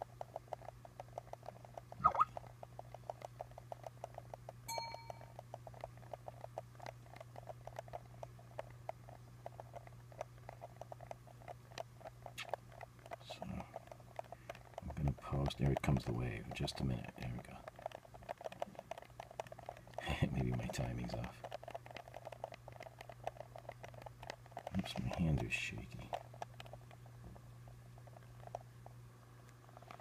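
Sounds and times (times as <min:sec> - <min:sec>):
faint fast ticking: 0:00.0 - 0:30.0
low steady hum: 0:00.0 - 0:30.0.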